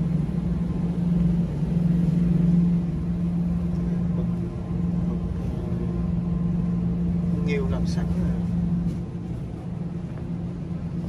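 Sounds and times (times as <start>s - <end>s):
refrigerated display case humming: 0.0s - 11.0s.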